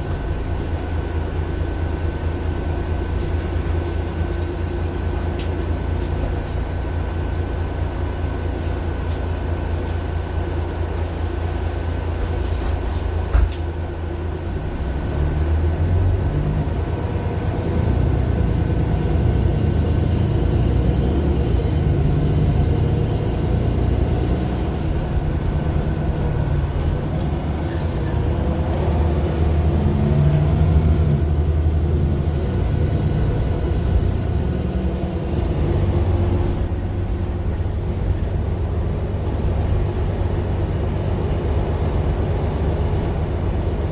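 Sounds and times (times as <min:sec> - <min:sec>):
bus diesel engine: 0:00.0 - 0:43.9.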